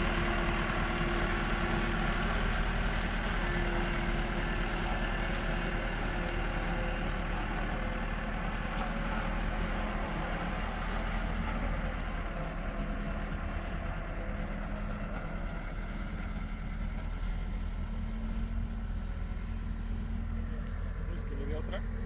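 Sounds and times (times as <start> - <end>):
road roller diesel engine: 0.0 - 22.0
roller driving over gravel: 0.0 - 22.0.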